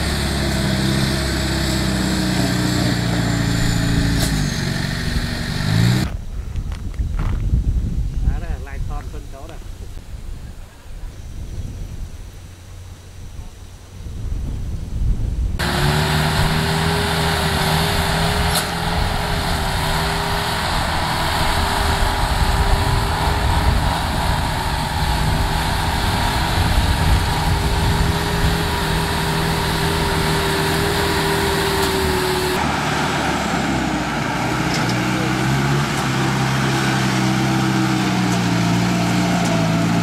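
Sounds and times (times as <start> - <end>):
engine running steadily: 0.0 - 40.0.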